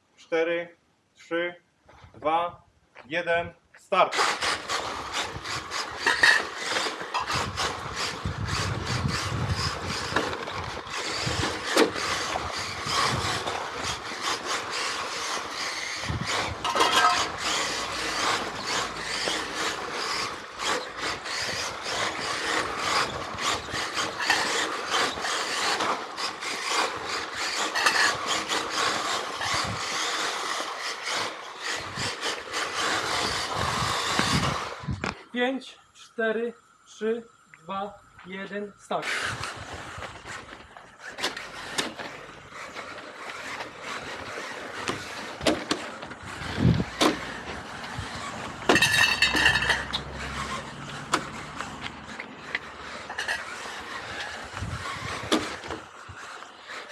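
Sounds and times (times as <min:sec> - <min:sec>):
rc car motor whirring: 0:04.1 - 0:35.2, 0:38.4 - 0:56.9
tyres scrubbing on tarmac: 0:04.2 - 0:35.0, 0:39.0 - 0:56.9.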